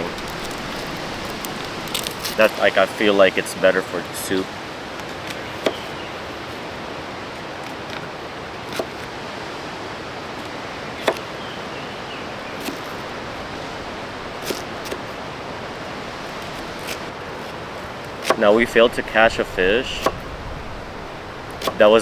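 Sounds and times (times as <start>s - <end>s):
wind noise: 0.0s - 5.1s, 8.7s - 22.0s.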